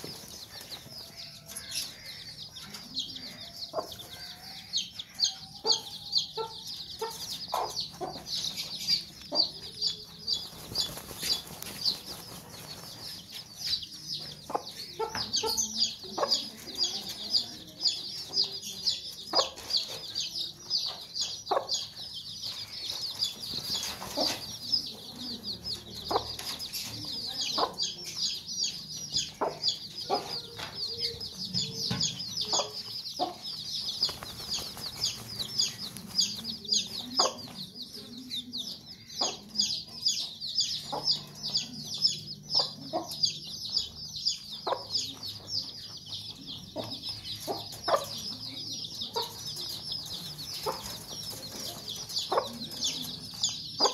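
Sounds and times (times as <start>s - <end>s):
chicks peeping: 0.0s - 53.9s
hen clucking: 0.0s - 53.9s.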